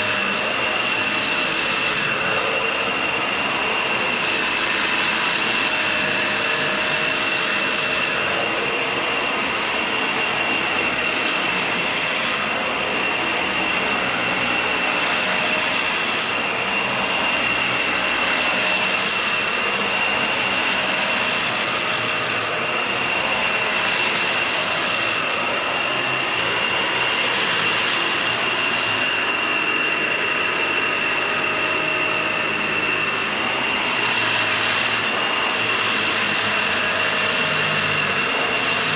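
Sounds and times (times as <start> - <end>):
vacuum cleaner on rug: 0.0 - 38.9.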